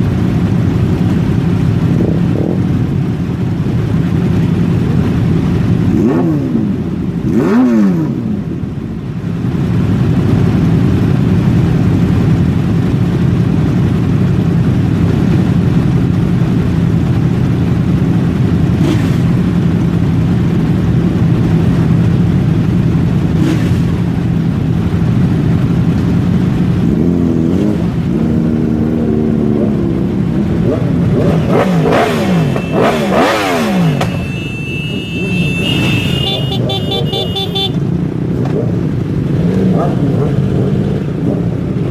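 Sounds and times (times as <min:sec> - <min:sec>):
vehicle engines revving: 0:00.0 - 0:41.9.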